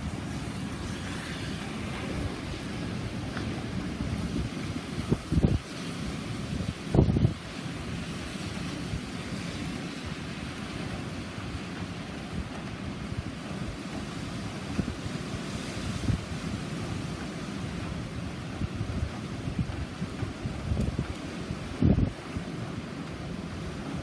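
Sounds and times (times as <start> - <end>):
heavy rain: 0.0 - 24.0
wind buffeting microphone: 0.0 - 24.0.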